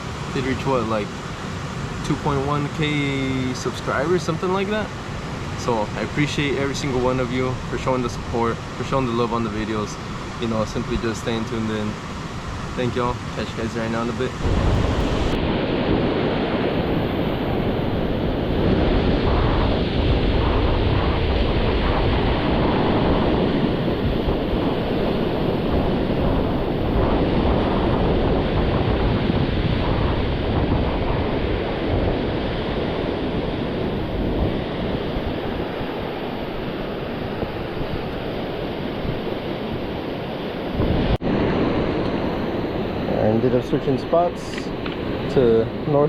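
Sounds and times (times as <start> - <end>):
ocean surf washing: 0.0 - 46.0
wind buffeting microphone: 0.0 - 46.0.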